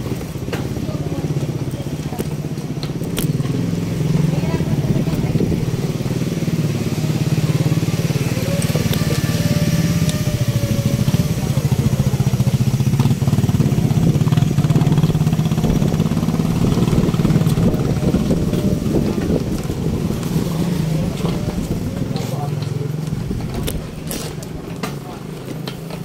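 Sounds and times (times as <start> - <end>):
motorcycle engine putter: 0.0 - 6.1, 7.0 - 26.0.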